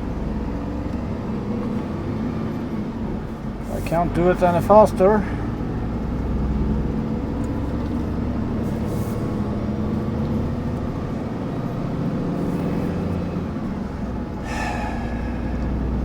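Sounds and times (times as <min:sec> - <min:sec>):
road rumble: 0:00.0 - 0:16.0
truck engine running: 0:00.0 - 0:16.0.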